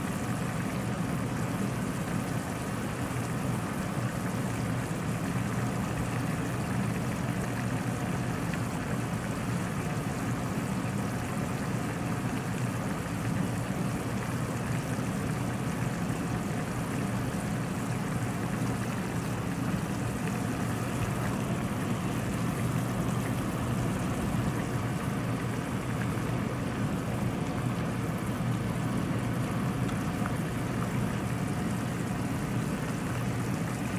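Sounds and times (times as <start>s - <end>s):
soup boiling in a pot: 0.0s - 33.9s.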